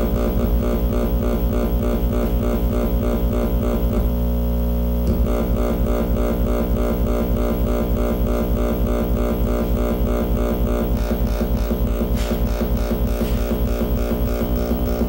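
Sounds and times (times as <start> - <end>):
pulsing electronic noise drone: 0.0 - 15.0.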